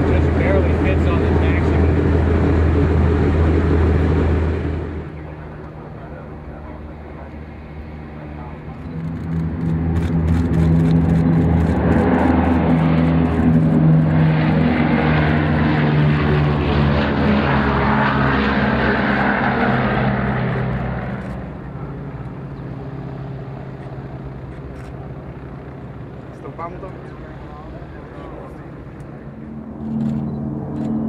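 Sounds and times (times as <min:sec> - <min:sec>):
propeller aircraft engine drone: 0:00.0 - 0:31.0.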